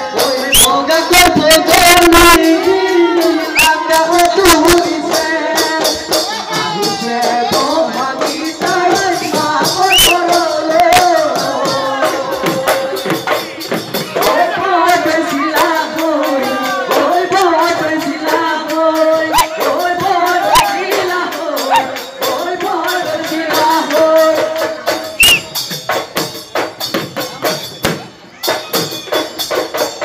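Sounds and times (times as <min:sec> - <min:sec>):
person singing: 0:00.0 - 0:25.2
dhol drums beating: 0:00.0 - 0:30.0
jingling percussion: 0:00.0 - 0:30.0.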